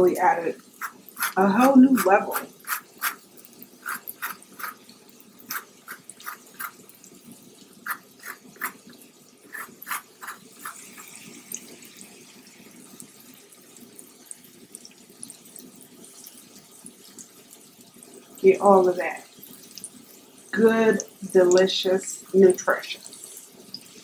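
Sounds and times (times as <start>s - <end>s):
butter sizzling in a skillet: 0.0s - 24.0s.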